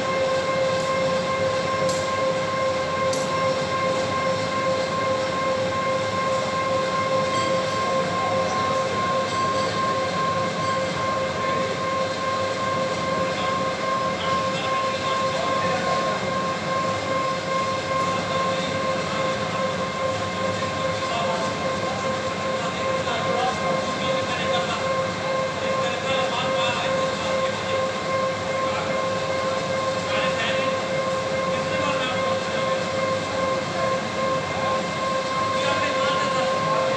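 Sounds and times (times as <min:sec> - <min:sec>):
high-pitched electrical hum: 0:00.0 - 0:36.9
machinery noise: 0:00.0 - 0:36.9.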